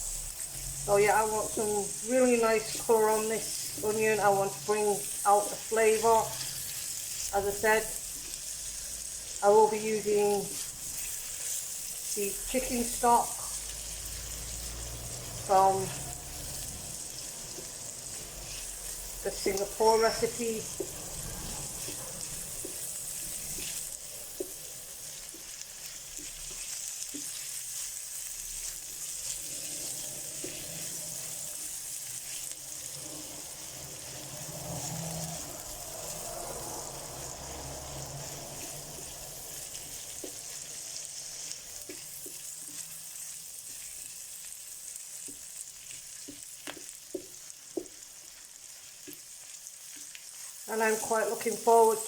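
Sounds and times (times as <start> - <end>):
onion sizzling in a frying pan: 0.0 - 52.0.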